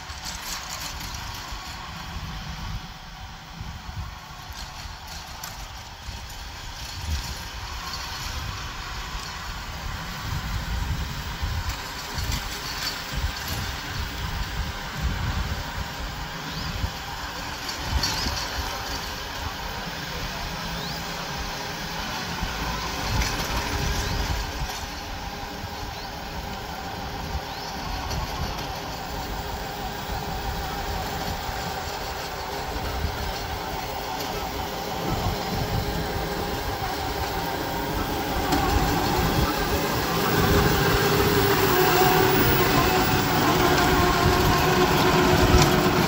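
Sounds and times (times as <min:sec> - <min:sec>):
electric tractor humming and whining: 0:00.0 - 0:46.0.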